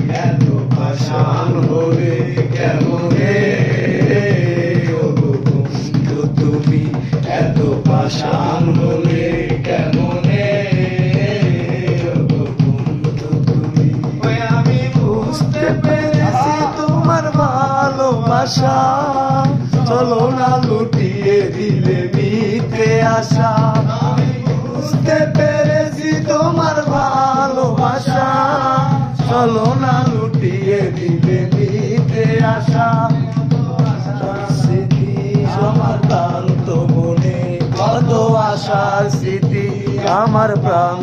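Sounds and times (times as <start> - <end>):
person singing: 0.0 - 23.7, 24.5 - 41.0
drums and instrumental accompaniment: 0.0 - 41.0.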